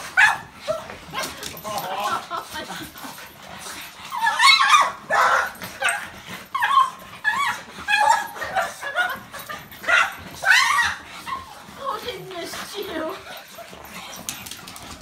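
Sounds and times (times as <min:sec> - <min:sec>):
dogs whining and yipping: 0:00.0 - 0:15.0.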